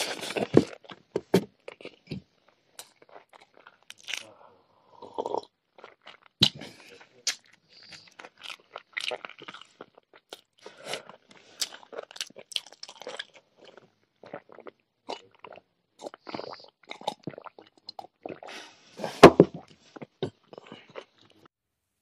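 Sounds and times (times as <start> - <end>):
man chewing and crunching food: 0.0 - 21.5.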